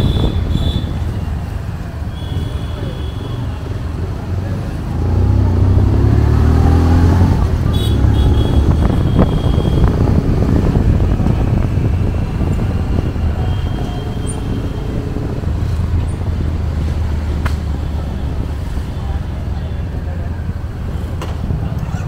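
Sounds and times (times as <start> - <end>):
road traffic engines: 0.0 - 22.0
street noise: 0.0 - 22.0.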